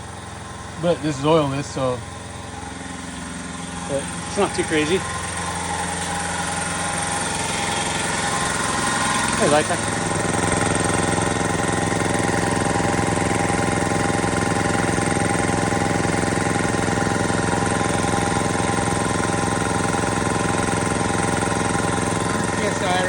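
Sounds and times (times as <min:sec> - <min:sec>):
air compressor running: 0:00.0 - 0:23.0.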